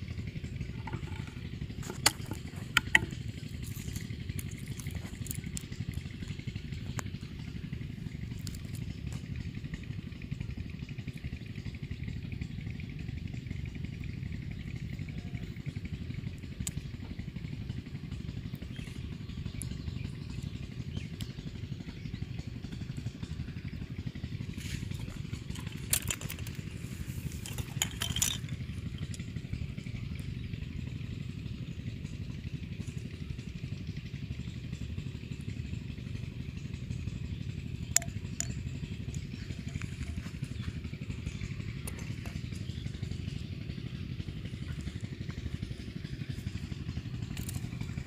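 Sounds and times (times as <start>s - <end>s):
motor droning: 0.0s - 48.0s.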